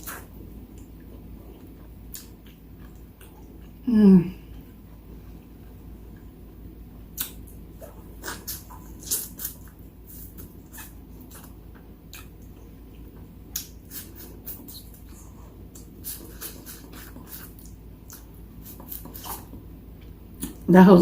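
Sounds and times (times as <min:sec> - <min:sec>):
chewing and lip-smacking: 0:00.0 - 0:03.8, 0:07.1 - 0:20.7.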